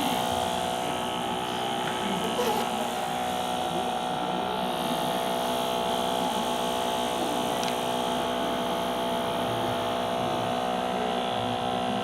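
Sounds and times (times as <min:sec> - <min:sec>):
electric fan motor humming: 0:00.0 - 0:12.0.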